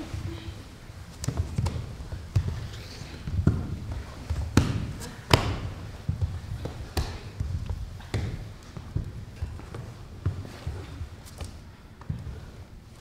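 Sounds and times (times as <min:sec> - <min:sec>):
bodies thudding on stage floor: 0:01.2 - 0:12.4.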